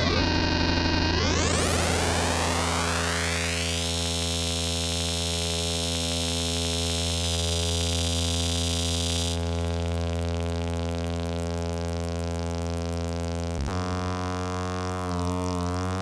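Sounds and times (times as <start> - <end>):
buzzy synthesizer drone: 0.0 - 16.0.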